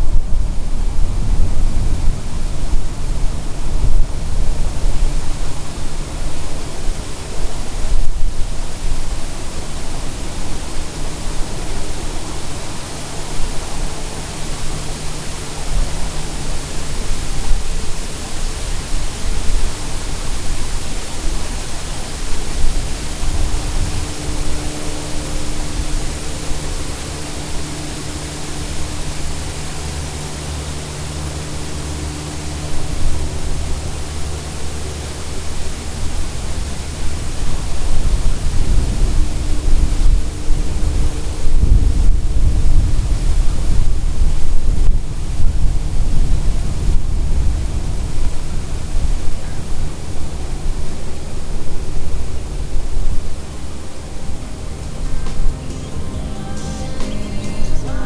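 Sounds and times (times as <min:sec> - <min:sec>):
road and wind noise: 0:00.0 - 0:57.8
low hum: 0:00.0 - 0:58.0.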